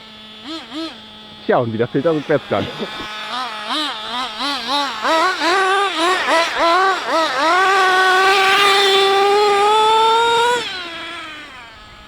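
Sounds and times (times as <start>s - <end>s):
small nitro engine revving: 0.0s - 12.0s.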